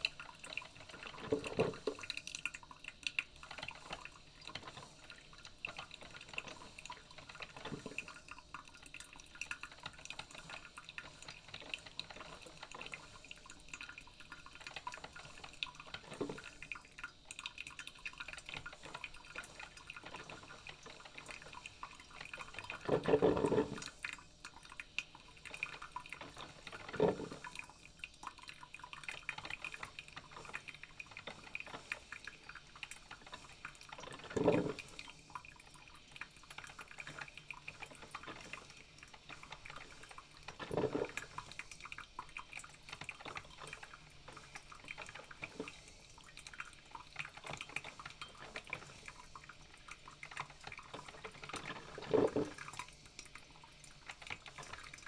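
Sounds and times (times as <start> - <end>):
coffee maker dripping: 0.0 - 55.0
coffee maker gurgle: 0.0 - 55.0.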